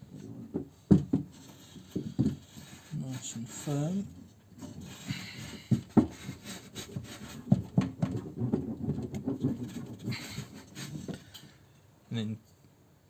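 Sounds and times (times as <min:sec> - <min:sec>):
hand roller scraping rubber sheets: 0:00.0 - 0:11.4.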